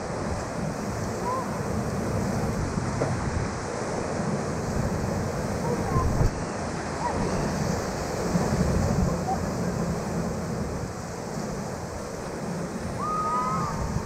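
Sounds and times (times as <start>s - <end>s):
whitewater rapids rushing: 0.0s - 14.0s
wind buffeting microphone: 0.0s - 14.0s.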